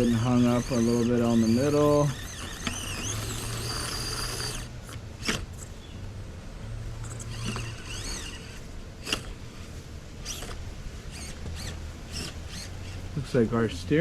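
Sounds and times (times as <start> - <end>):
high motor whines: 0.0 - 14.0
small electric drive humming: 0.0 - 14.0.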